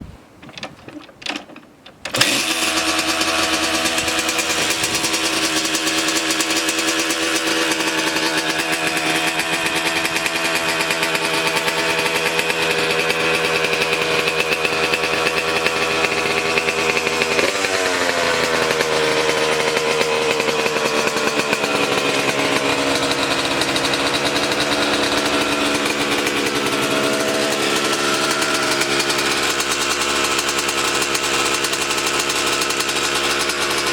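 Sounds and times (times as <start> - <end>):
motorcycle engine starting and idling: 0.3 - 33.9.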